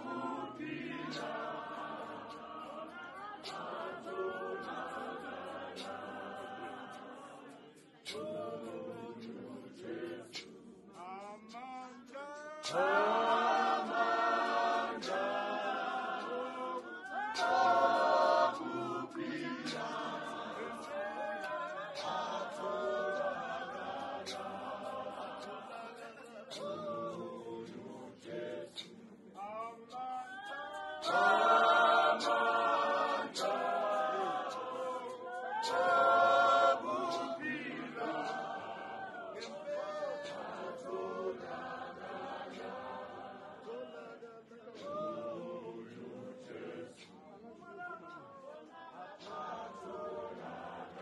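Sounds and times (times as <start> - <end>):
congregation singing a hymn: 0.0 - 51.0.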